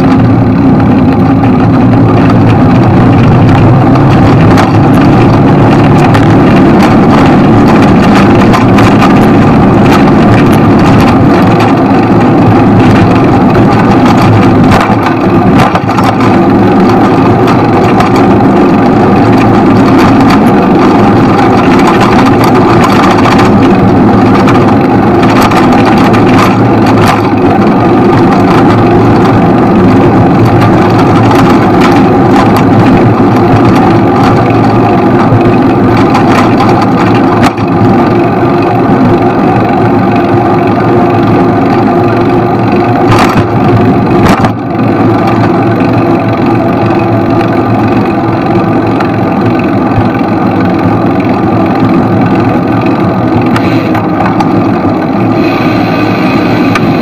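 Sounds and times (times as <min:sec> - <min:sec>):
city traffic noise: 0:00.0 - 0:57.0.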